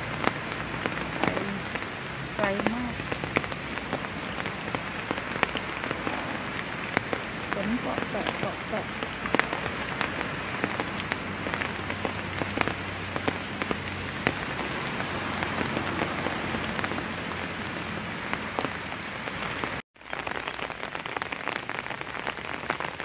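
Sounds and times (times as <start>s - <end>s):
raindrops ticking close by: 0.0s - 23.0s
steady rain falling: 0.0s - 23.0s.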